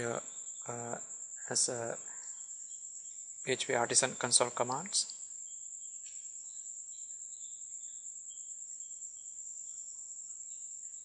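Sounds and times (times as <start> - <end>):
faint high-pitched whine: 0.0 - 11.0
soft irregular chirps: 0.0 - 11.0.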